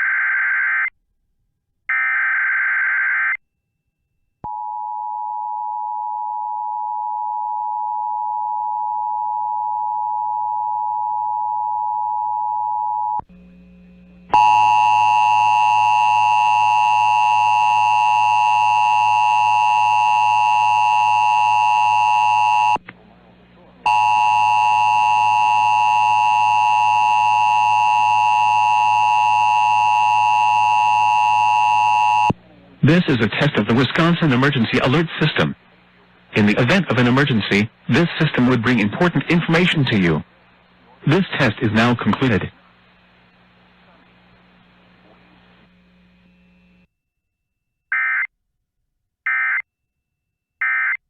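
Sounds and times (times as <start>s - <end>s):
faint hum: 3.6s - 46.9s.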